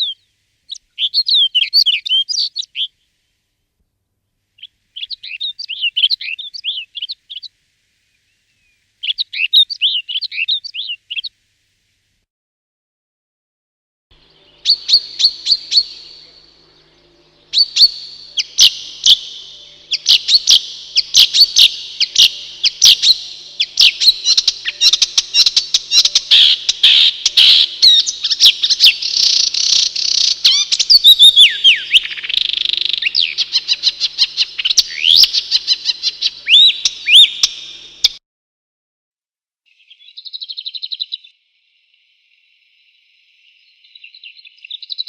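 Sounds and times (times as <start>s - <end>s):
songbird singing: 0.0s - 3.3s, 4.6s - 11.4s, 14.1s - 38.2s, 39.7s - 45.0s.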